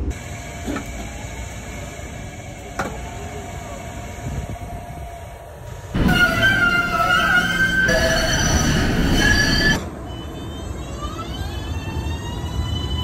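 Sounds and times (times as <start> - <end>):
light-rail car hum: 0.0 - 13.0.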